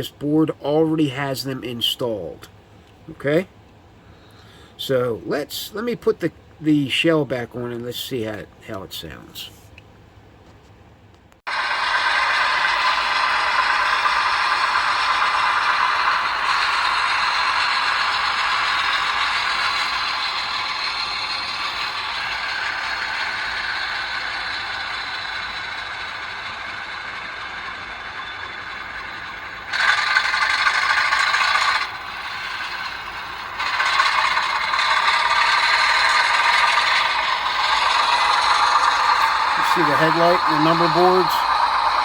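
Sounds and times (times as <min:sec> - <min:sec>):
rattly model locomotive engine sound: 0:00.0 - 0:09.5, 0:11.5 - 0:42.0.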